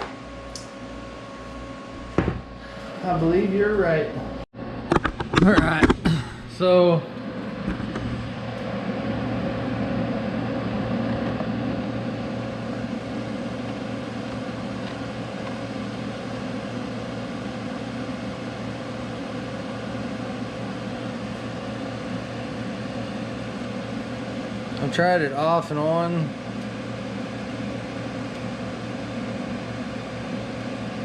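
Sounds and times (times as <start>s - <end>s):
machine hum with hiss: 0.0s - 31.0s.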